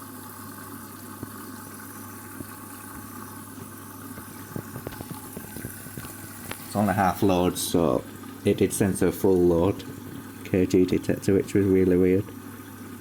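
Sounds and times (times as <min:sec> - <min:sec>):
low steady hum: 0:00.0 - 0:13.0
water rushing into washing machine: 0:00.0 - 0:13.0.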